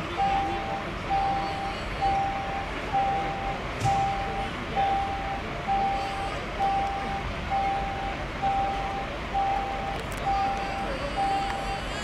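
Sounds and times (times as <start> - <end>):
electronic warning beeper: 0.0 - 12.0.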